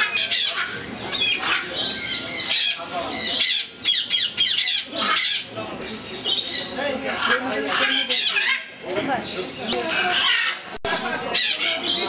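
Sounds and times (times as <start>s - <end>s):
people talking: 0.0s - 3.8s, 4.4s - 12.0s
many birds chirping and squawking: 0.0s - 12.0s.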